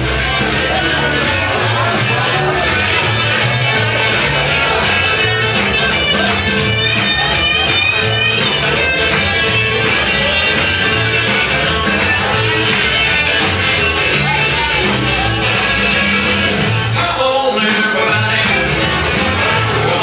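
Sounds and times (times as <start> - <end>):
walking bass line: 0.0 - 17.3, 17.9 - 20.0
rockabilly music with guitar: 0.0 - 20.0.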